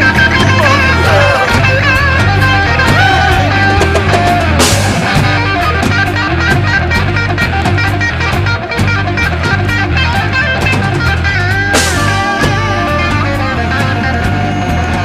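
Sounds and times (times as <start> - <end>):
bass line: 0.0 - 15.0
drum kit beat: 0.0 - 15.0
electric guitar lead: 0.0 - 15.0.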